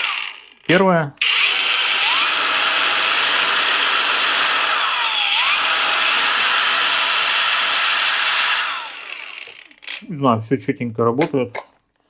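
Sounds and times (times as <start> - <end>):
angle grinder whirring: 0.0 - 10.1.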